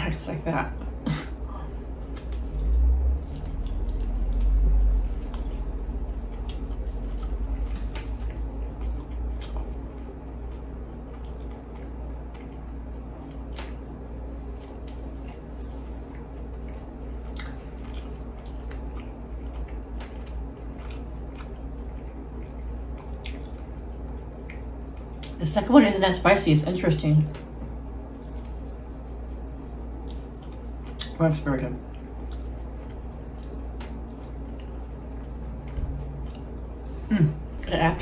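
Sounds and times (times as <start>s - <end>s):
wet chewing and smacking: 1.9s - 25.4s, 27.3s - 31.2s, 31.8s - 37.0s
crunchy clicks of chewing: 2.0s - 25.4s, 29.4s - 31.2s, 31.8s - 37.0s.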